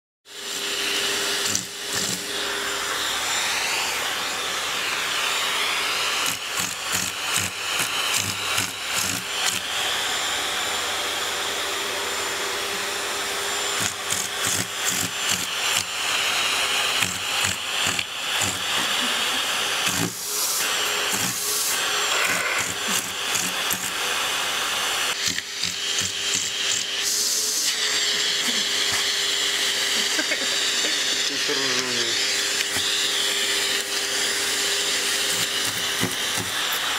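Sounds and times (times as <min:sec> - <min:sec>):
vacuum cleaner running: 0:00.3 - 0:36.9.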